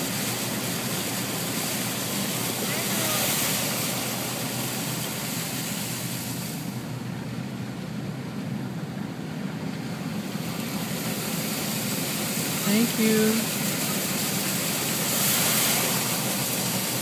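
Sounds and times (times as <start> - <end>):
water splashing against car: 0.0 - 17.0.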